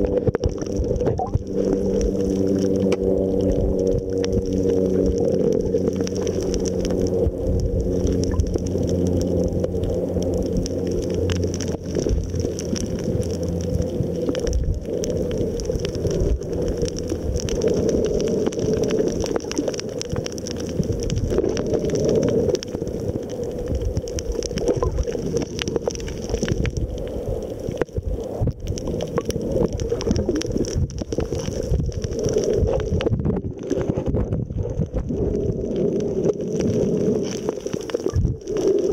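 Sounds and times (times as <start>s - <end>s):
steady droning hum: 0.0s - 33.8s
muffled underwater rumbling: 0.0s - 38.9s.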